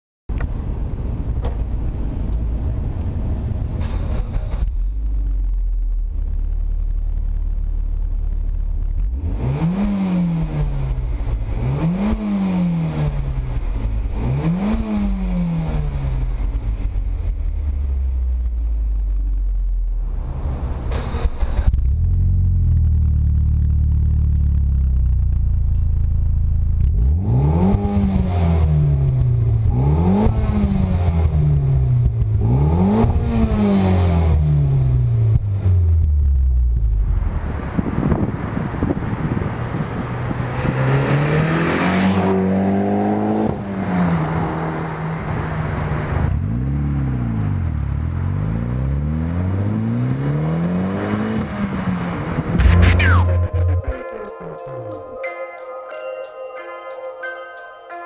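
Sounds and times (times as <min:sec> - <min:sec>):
car engine revving: 0:03.8 - 0:55.2.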